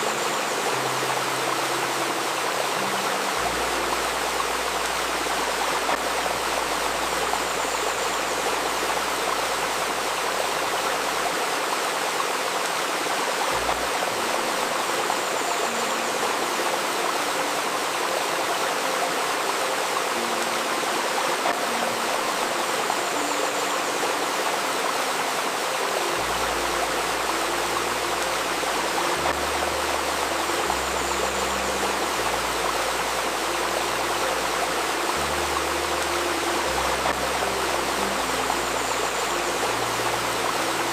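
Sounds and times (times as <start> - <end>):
babbling stream: 0.0 - 40.9.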